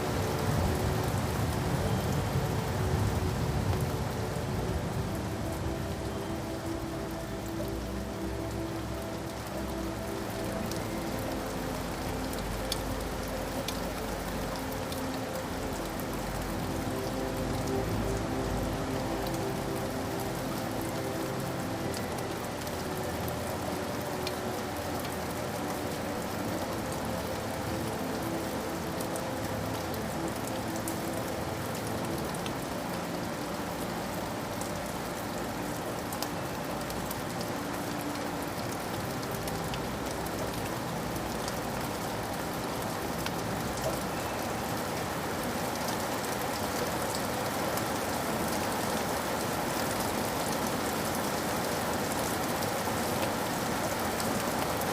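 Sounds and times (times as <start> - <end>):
rain hissing: 0.0 - 54.9.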